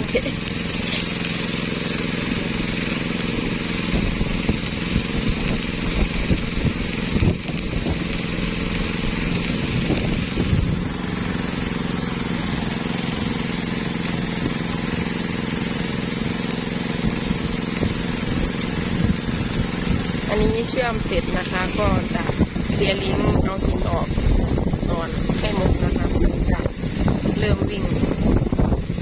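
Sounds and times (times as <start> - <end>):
arc welding crackle and hiss: 0.0 - 29.0
engine running: 0.0 - 29.0.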